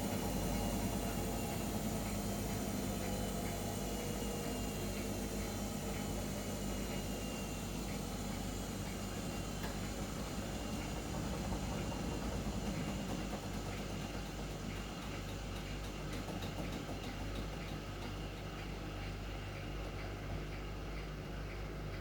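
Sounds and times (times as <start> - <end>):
washing machine motor hum: 0.0 - 22.0.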